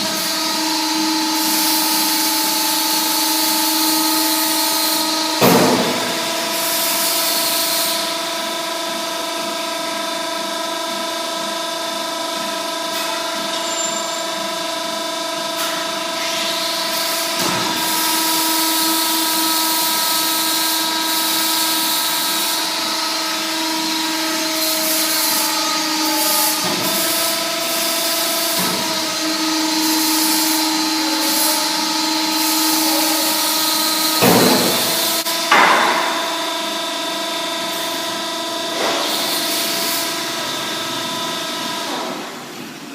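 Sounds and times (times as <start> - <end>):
hydraulic baler whining: 0.0 - 8.8, 12.0 - 42.9.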